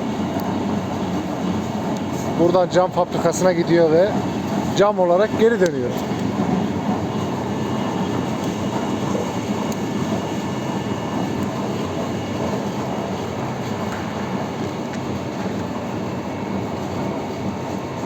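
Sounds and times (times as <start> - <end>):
industrial machine rumbling: 0.0 - 18.0
low machine hum: 0.0 - 18.0.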